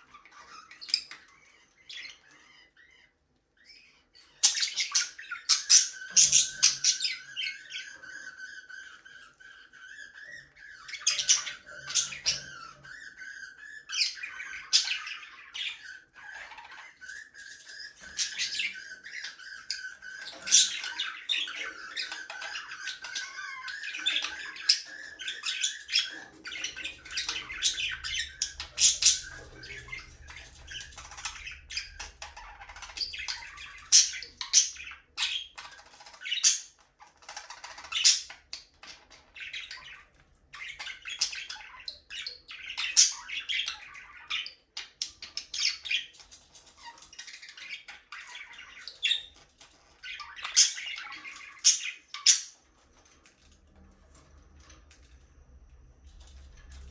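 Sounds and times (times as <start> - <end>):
budgerigars chattering: 3.8 - 52.6.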